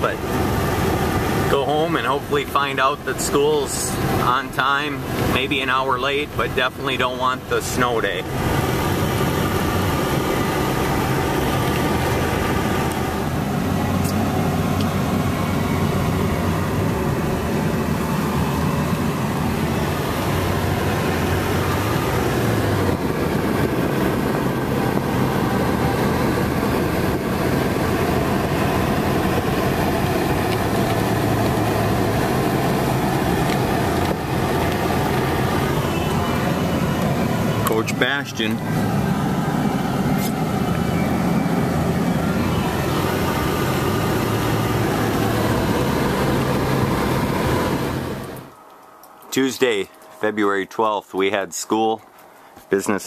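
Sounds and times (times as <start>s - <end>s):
car engine driving: 0.0s - 53.0s.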